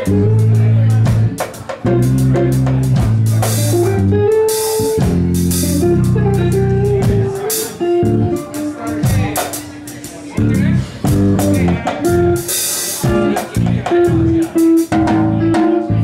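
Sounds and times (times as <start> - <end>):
jazz trio playing: 0.0 - 16.0.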